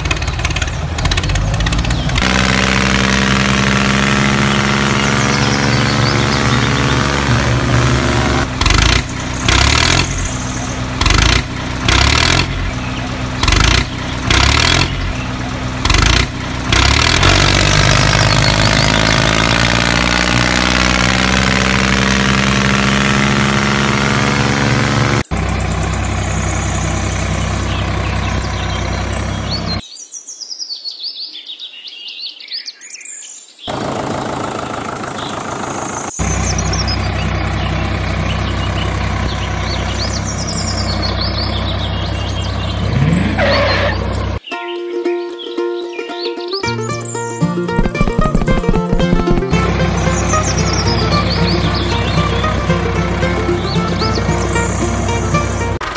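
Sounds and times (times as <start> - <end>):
small engine running: 0.0 - 29.8, 33.7 - 44.4, 47.3 - 55.9
birds chirping: 0.0 - 55.9.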